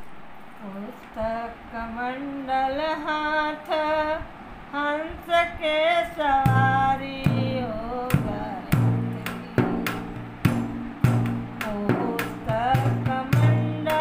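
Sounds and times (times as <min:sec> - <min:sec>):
woman singing devotional song: 0:00.6 - 0:14.0.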